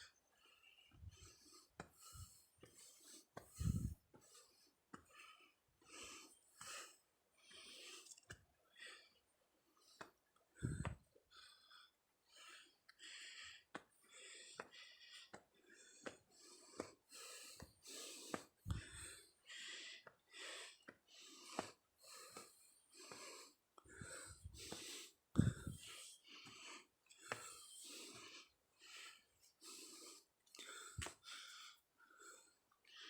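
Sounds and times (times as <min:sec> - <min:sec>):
person panting: 0:00.4 - 0:08.1, 0:09.9 - 0:33.0.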